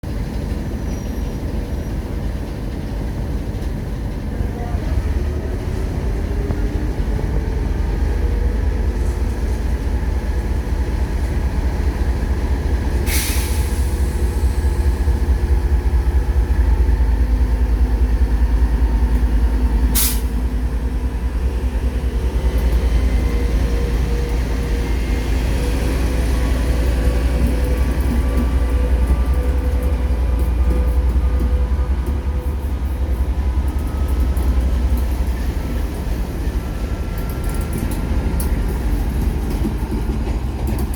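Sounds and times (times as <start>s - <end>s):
diesel locomotive engine rumble: 0.0s - 40.9s.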